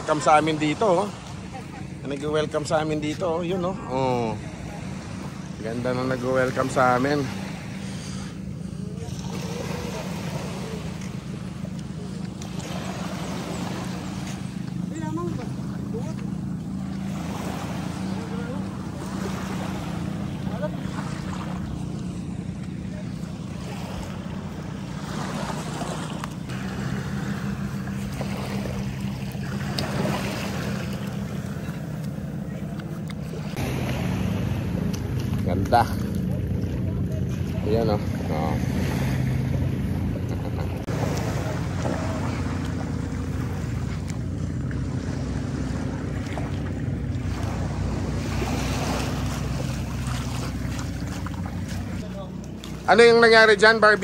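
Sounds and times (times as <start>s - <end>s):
engine humming: 0.0s - 54.0s
water noise: 0.0s - 54.0s
wind: 0.0s - 54.0s.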